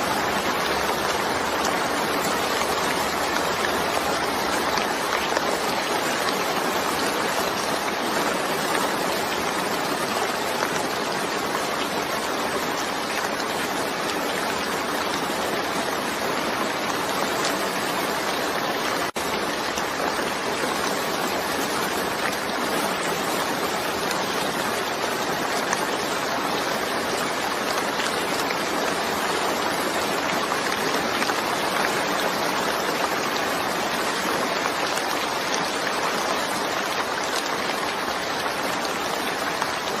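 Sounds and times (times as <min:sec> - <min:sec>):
dense rain falling: 0:00.0 - 0:40.0.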